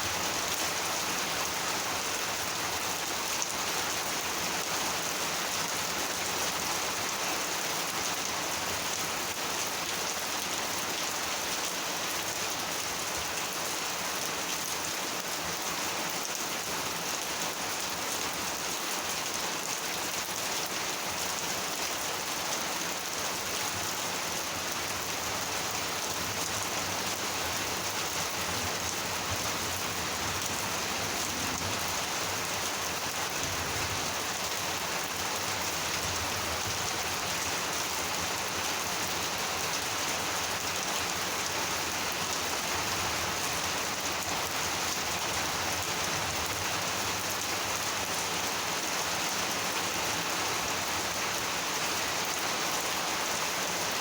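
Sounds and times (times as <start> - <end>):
heavy rain pattering: 5.4 - 51.1.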